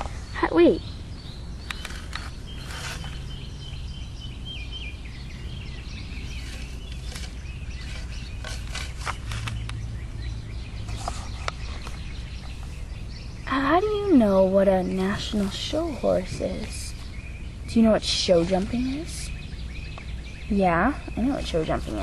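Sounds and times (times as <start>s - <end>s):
faint birds chirping: 0.0s - 22.0s
steady background hum: 0.0s - 22.0s.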